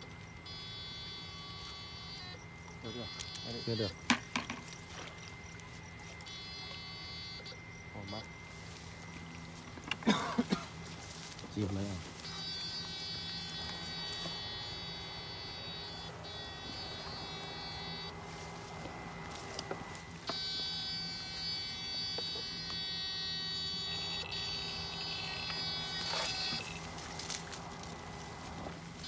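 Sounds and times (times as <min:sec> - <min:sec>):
high-pitched electronic whine: 0:00.0 - 0:29.0
steady low hum: 0:00.0 - 0:29.0.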